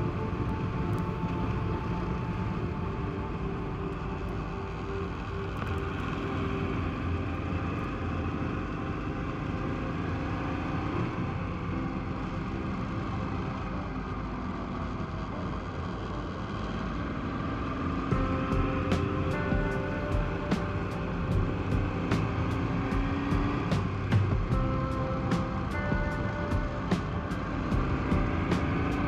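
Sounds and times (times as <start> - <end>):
motorcycle engine running: 4.1 - 29.0.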